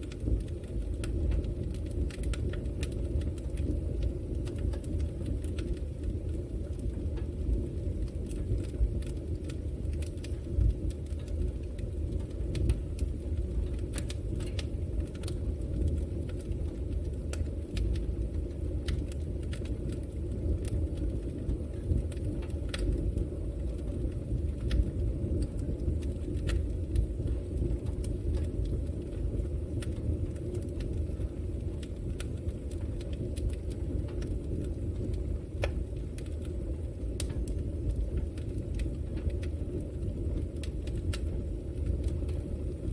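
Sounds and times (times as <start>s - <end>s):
fire crackling and popping: 0.0s - 42.9s
fire flames rumbling: 0.0s - 42.9s.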